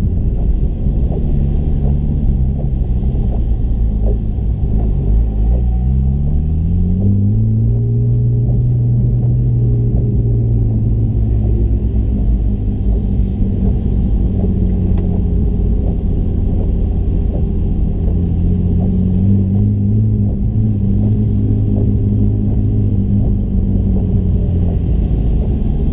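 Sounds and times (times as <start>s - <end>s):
car engine drone: 0.0s - 25.9s.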